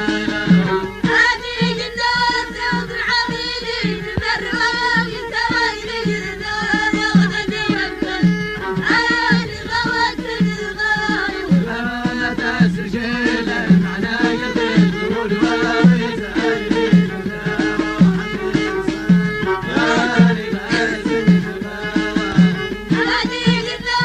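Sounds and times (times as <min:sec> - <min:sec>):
person singing folk song: 0:00.0 - 0:24.0
steady percussion beat: 0:00.0 - 0:24.0.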